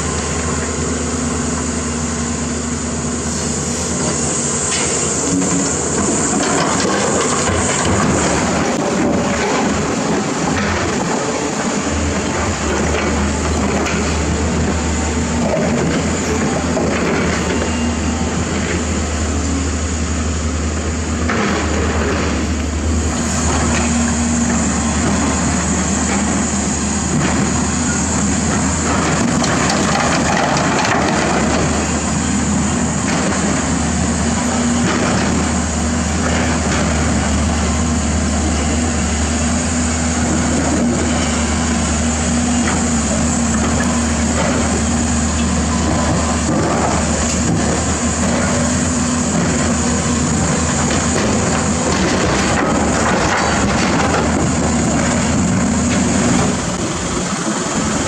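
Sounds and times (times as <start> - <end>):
diesel engines droning: 0.0 - 58.0.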